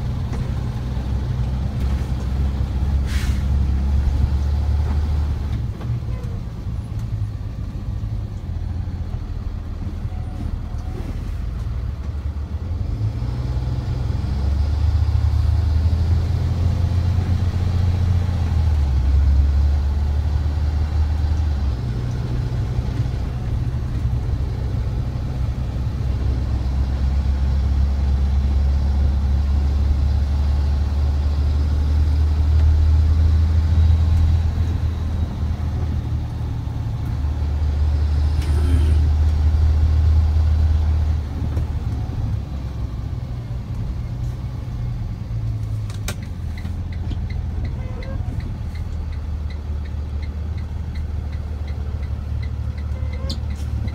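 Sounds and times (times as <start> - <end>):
car engine and tyre drone: 0.0 - 53.9.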